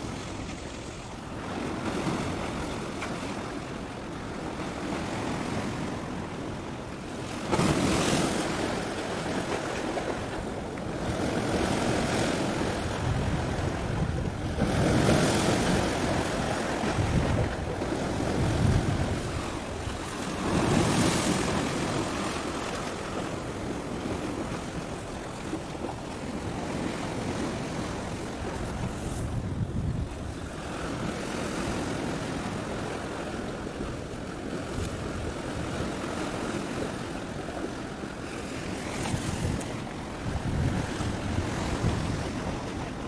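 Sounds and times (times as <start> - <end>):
sea waves washing: 0.0 - 43.0
wind buffeting microphone: 0.0 - 43.0.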